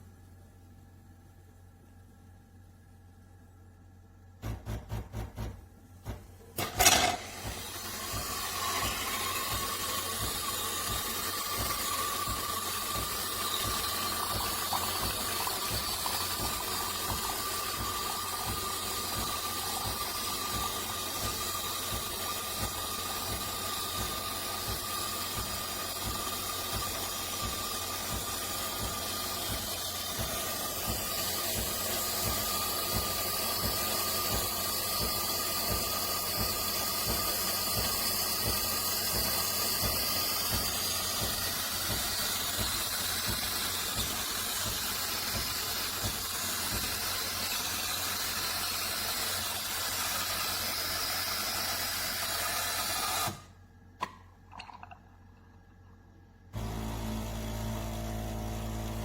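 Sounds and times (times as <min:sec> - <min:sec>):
espresso machine hissing steam: 0:06.6 - 0:53.4, 0:56.6 - 0:59.0.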